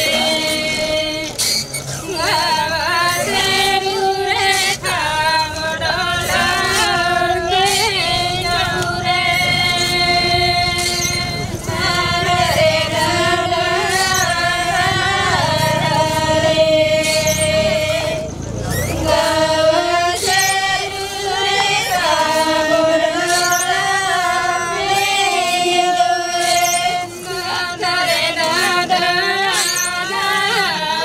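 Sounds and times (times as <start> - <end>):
women singing together: 0.0 - 31.0.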